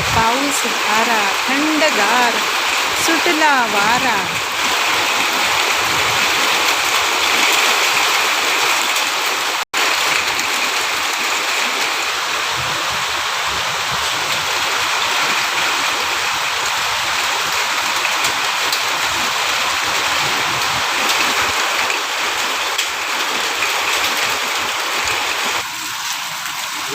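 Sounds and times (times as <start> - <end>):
rain pouring down: 0.0 - 26.9.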